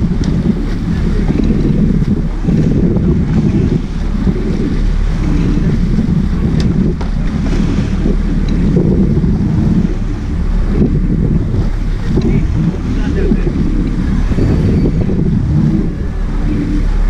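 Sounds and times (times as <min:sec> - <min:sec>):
boat engines rumbling: 0:00.0 - 0:17.0
water splashing along hull: 0:00.0 - 0:17.0
wind buffeting microphone: 0:00.0 - 0:17.0.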